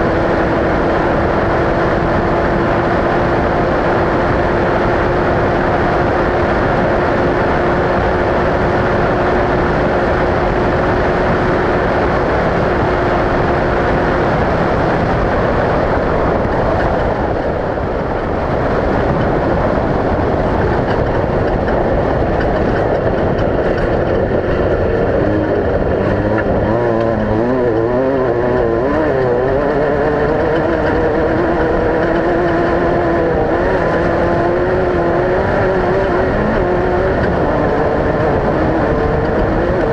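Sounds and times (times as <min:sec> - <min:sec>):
race vehicle engine revving: 0:00.0 - 0:39.9.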